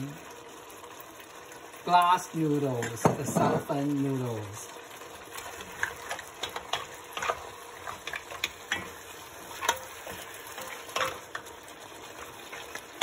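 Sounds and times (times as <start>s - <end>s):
sizzling hiss from pot: 0.0s - 13.0s.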